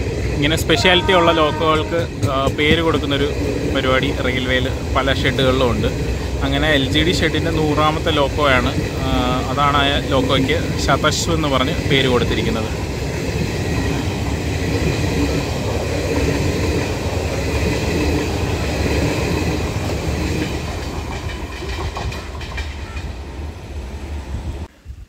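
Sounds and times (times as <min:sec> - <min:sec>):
train wheel clatter: 0:00.0 - 0:23.5
train coaches rumbling on track: 0:00.0 - 0:24.7.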